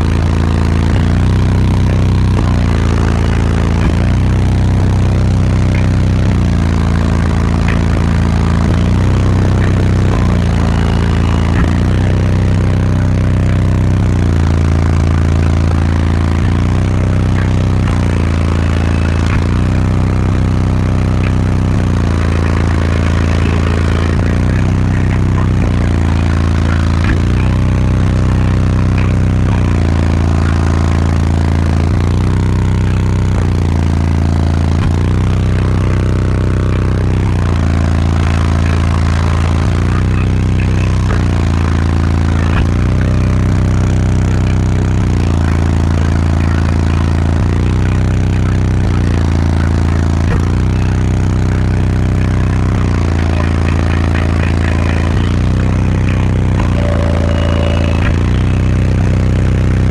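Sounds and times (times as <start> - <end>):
distorted bass-heavy music: 0.0 - 59.9.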